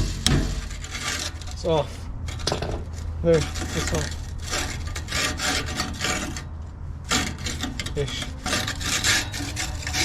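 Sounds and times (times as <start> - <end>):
metal-on-metal scraping: 0.0 - 10.0.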